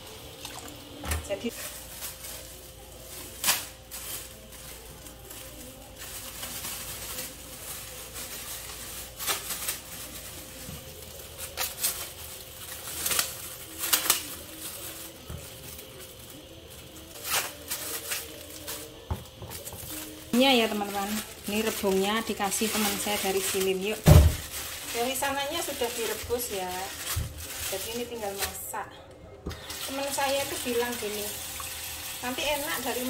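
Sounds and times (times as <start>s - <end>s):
plastic bag rustling: 0.0s - 28.8s, 29.5s - 33.0s.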